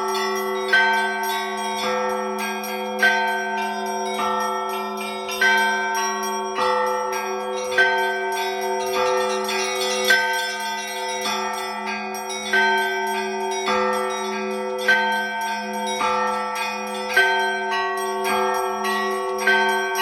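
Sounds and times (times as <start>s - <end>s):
loud accented bell strokes: 0.0s - 20.0s
low bell humming: 0.0s - 20.0s
small high bells striking: 0.0s - 20.0s.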